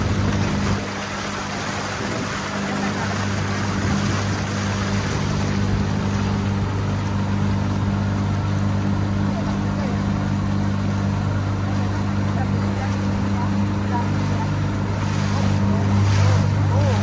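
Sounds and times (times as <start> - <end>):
motorboat engine running: 0.0 - 17.0
water rushing over hull: 0.0 - 17.0
wind: 0.0 - 17.0.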